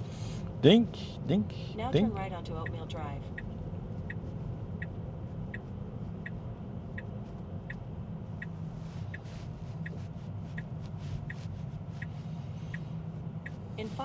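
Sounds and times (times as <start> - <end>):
turn signal ticking: 0.4 - 14.0.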